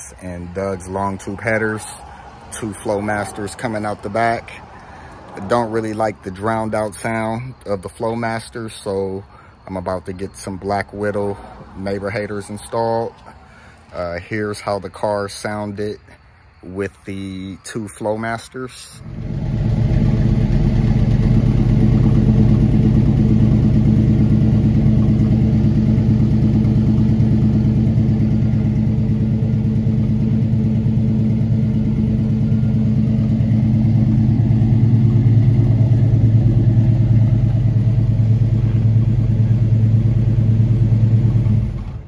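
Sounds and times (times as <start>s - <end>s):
car engine idling: 0.0s - 15.6s, 17.1s - 42.0s.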